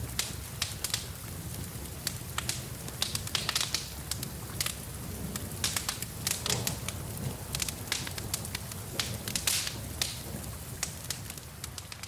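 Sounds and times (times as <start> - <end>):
wood fire crackling and popping: 0.0 - 12.0.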